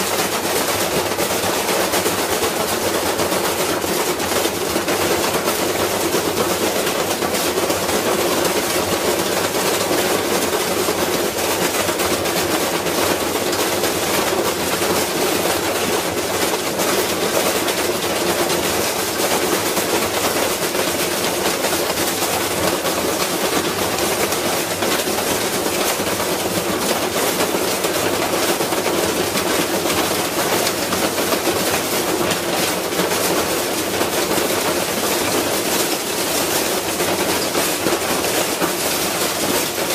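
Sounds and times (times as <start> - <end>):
washing machine rattling and banging: 0.0 - 39.9.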